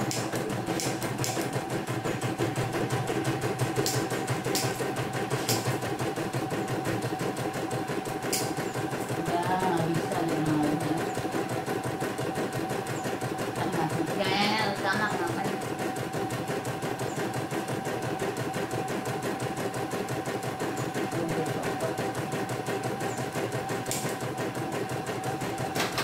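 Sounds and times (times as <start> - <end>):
embroidery machine needle rhythm: 0.0 - 26.0.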